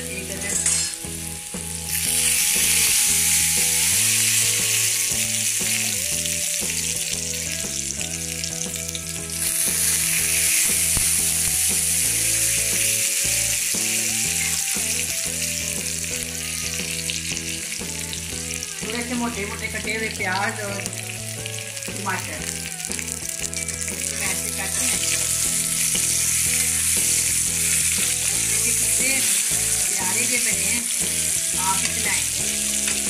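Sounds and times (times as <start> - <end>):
gourds sizzling in a pan: 0.0 - 33.0.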